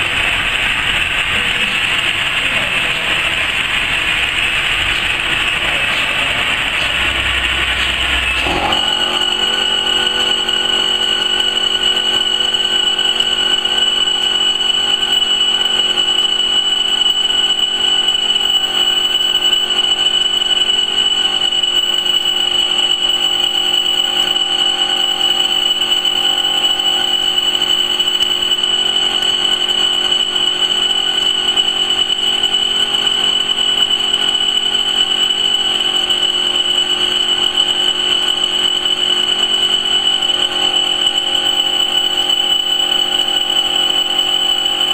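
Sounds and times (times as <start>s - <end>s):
laser cutting machine whine: 0.0s - 44.9s.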